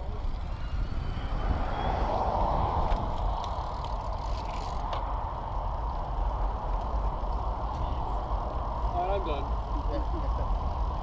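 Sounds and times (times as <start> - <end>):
bicycle tyre noise: 0.0 - 11.0
wind buffeting microphone: 0.0 - 11.0.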